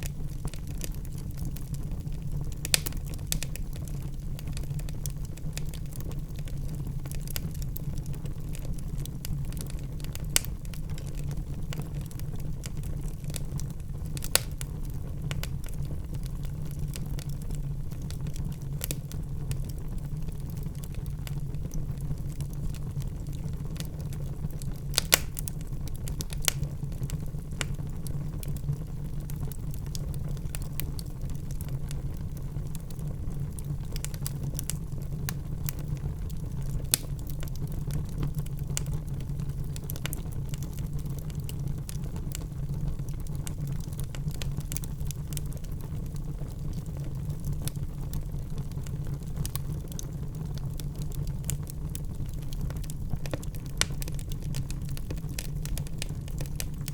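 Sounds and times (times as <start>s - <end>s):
fireplace logs burning and crackling: 0.0s - 56.9s.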